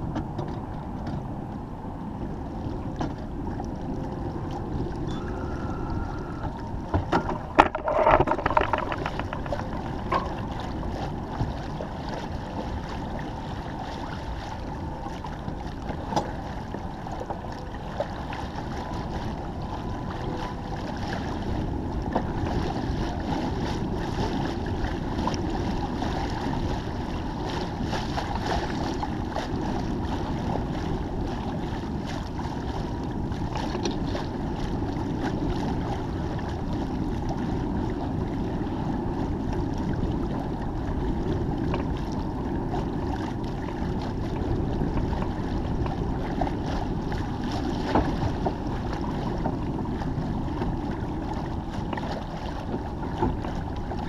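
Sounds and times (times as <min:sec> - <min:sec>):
water rushing along hull: 0:00.0 - 0:54.0
wind noise on microphone: 0:00.0 - 0:54.0.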